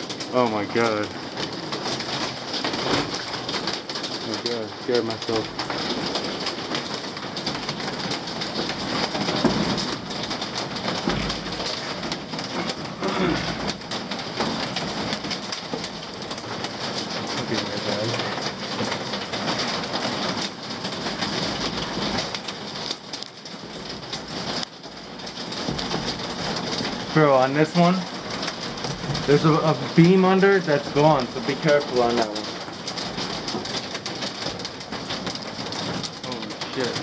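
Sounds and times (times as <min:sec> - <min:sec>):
knocks and rustles: 0:00.0 - 0:37.0
steady rain: 0:00.0 - 0:37.0.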